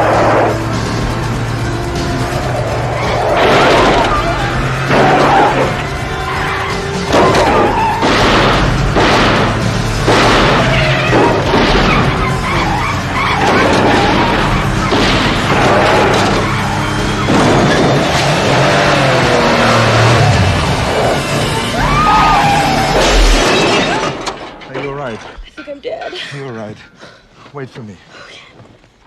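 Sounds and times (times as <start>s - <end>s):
car engines: 0.0s - 25.5s
tyres screeching: 0.0s - 25.8s.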